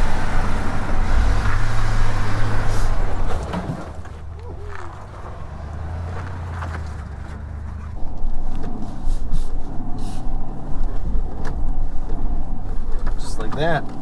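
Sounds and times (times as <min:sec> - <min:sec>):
truck engine running low: 0:00.0 - 0:13.2.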